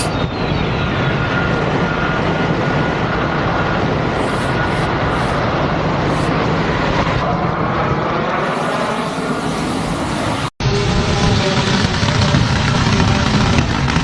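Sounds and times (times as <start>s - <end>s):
jet turbines rushing with whine: 0.0s - 14.0s.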